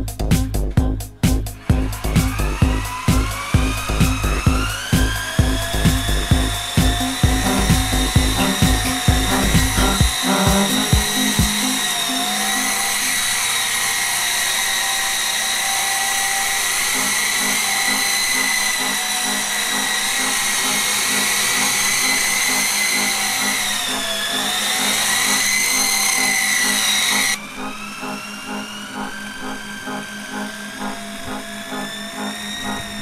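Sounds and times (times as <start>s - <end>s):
rc helicopter motor whine: 1.6s - 33.0s.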